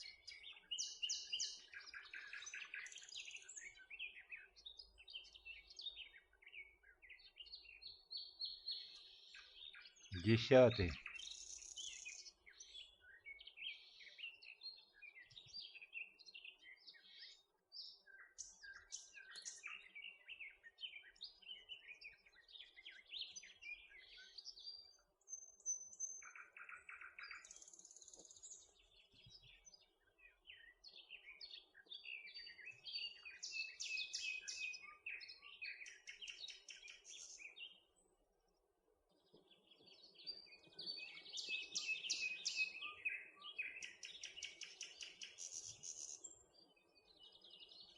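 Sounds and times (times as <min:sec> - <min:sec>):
small songbirds chirping: 0:00.0 - 0:47.9.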